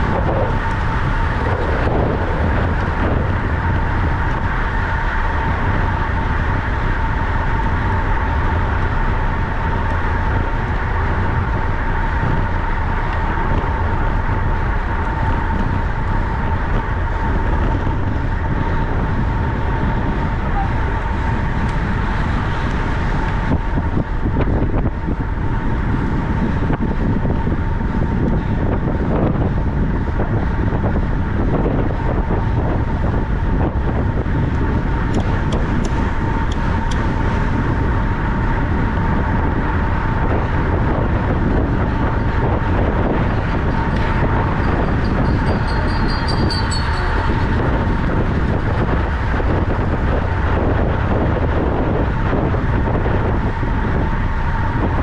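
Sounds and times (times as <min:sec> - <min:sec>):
bicycle rolling noise: 0:00.0 - 0:55.0
thin steady hum: 0:00.0 - 0:55.0
wind rushing: 0:00.0 - 0:55.0.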